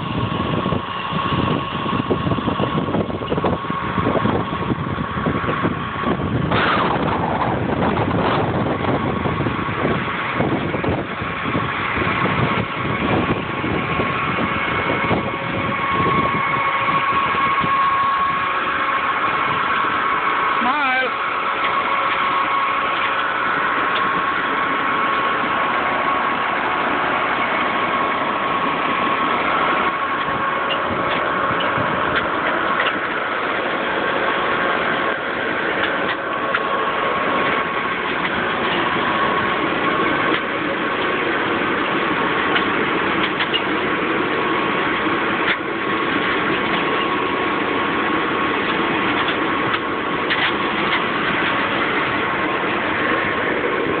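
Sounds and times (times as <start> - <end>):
harvesting machine engine droning: 0.0 - 54.0.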